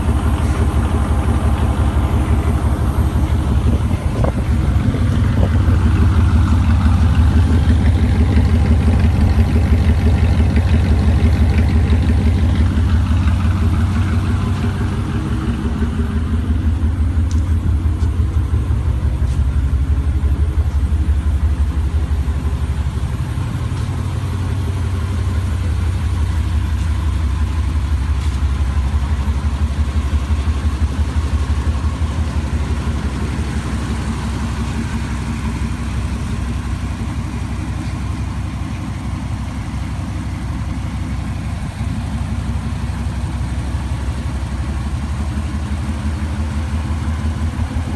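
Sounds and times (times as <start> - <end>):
pickup truck engine idling: 0.0 - 47.9.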